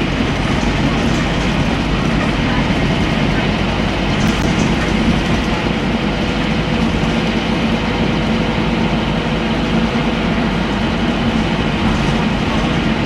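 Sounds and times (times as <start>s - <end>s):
bus diesel engine drone: 0.0s - 13.0s
road and body noise: 0.0s - 13.0s.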